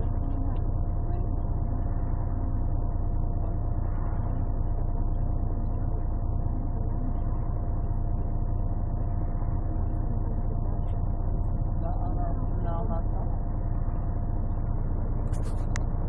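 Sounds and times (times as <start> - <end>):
bus engine drone: 0.0 - 16.0
steady whine: 0.0 - 16.0.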